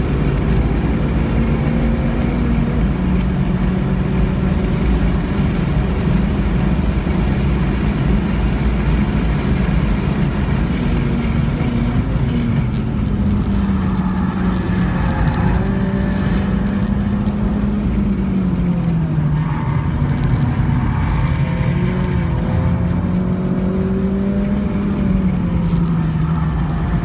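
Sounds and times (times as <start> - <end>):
car engine at high revs: 0.0 - 27.0
road and wind noise: 0.0 - 27.0.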